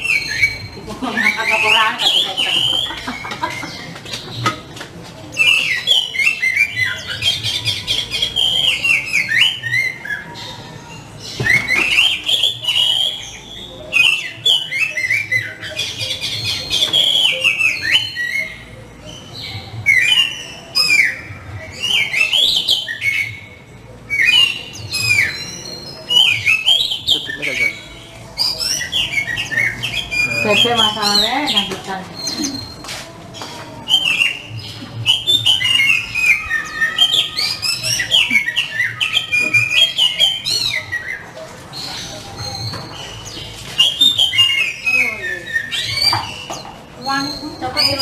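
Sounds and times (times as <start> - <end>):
songbird singing: 0.0 - 48.0.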